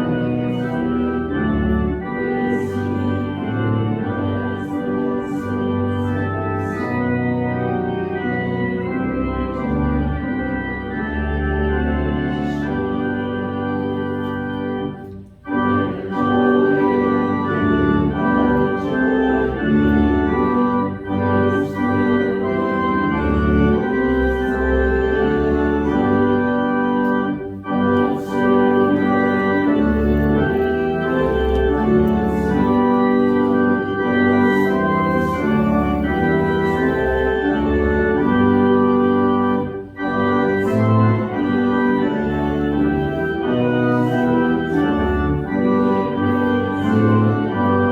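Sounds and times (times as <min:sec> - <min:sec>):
organ playing a hymn: 0:00.0 - 0:47.9.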